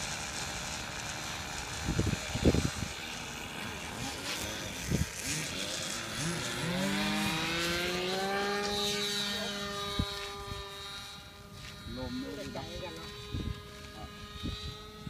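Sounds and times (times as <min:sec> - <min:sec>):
model plane engine revving: 0:00.0 - 0:15.0.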